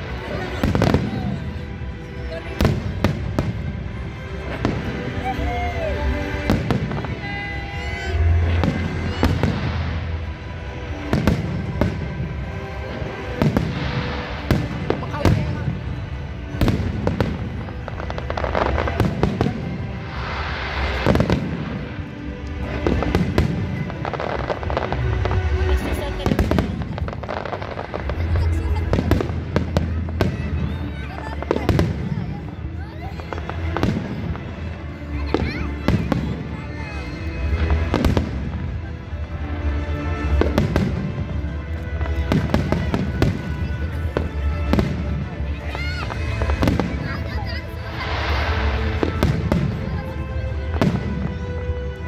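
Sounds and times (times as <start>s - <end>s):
firework crackling: 0.0s - 52.0s
music playing: 0.0s - 52.0s.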